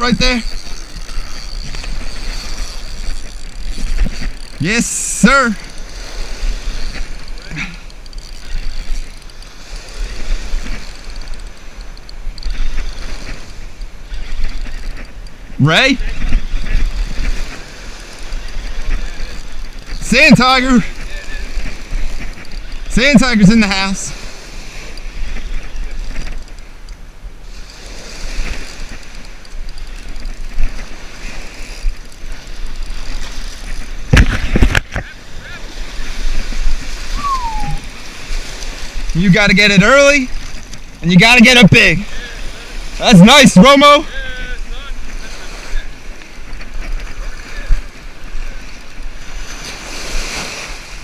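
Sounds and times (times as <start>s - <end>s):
wind buffeting microphone: 0.0s - 43.1s
ocean surf on beach: 0.0s - 51.0s
small waves breaking: 0.0s - 51.0s.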